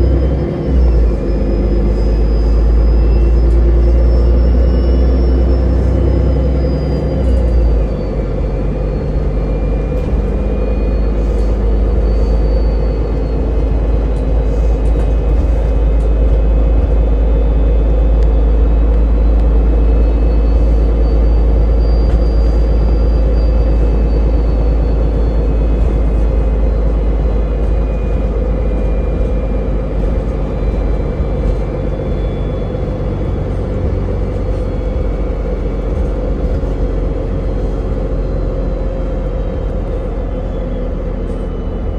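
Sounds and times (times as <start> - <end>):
vehicle interior rumble: 0.0 - 41.9.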